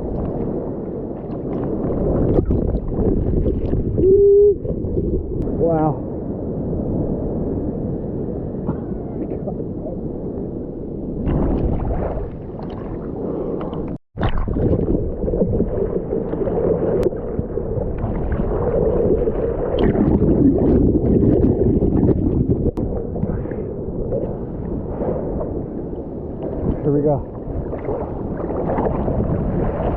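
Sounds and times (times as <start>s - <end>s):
seawater sloshing and splashing: 0.0s - 5.4s, 11.2s - 29.9s.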